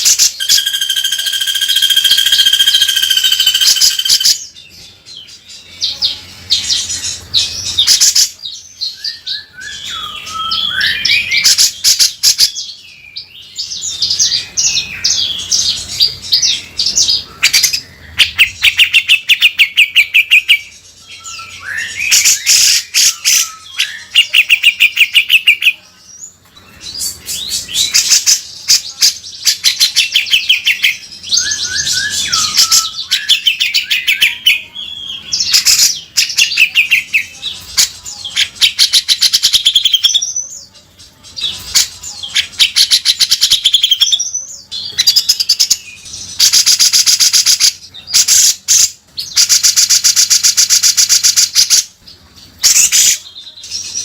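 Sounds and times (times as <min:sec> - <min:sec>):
bird singing harsh chatter: 0:00.0 - 0:54.0.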